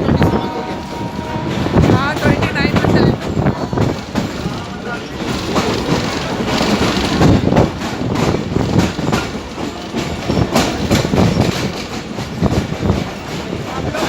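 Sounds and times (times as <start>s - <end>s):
train rumbling: 0.0s - 14.0s
train wheels clattering over rails: 0.0s - 14.0s.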